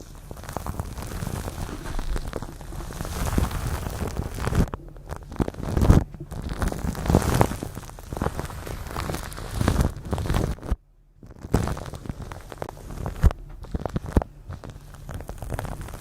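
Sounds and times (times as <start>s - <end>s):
crackling and rustling: 0.0s - 16.0s.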